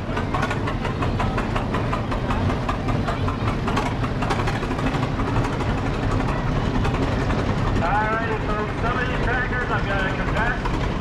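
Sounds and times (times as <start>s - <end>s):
tractor engine knocking: 0.0s - 11.0s.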